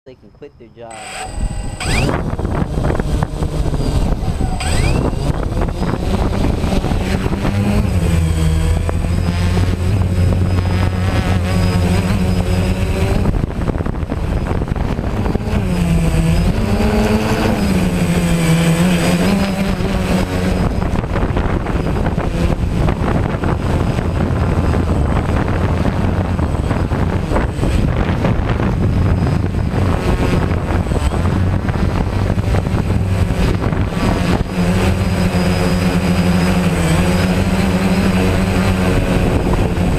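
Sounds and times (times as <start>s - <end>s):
drone motors buzzing: 0.7s - 39.9s.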